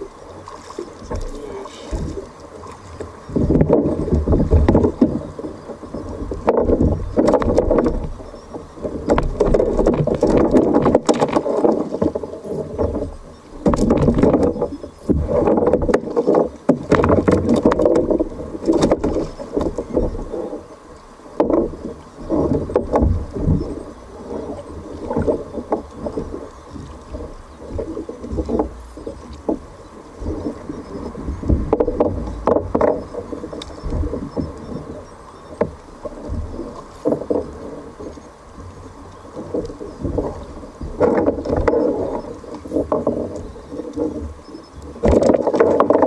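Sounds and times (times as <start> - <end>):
water sloshing around a kayak: 0.0 - 46.0.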